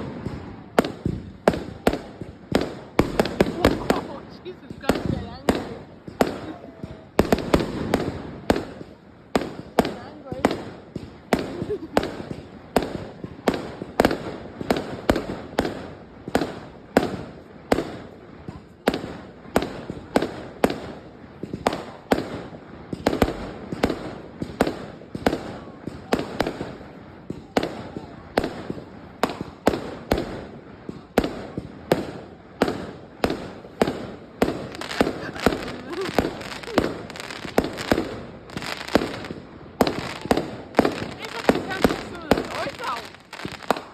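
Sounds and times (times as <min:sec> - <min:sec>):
fireworks exploding: 0:00.0 - 0:43.9.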